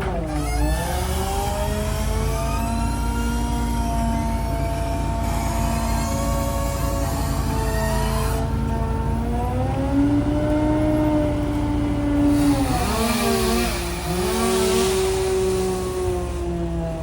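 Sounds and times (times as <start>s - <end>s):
power equipment engines running: 0.0s - 17.0s.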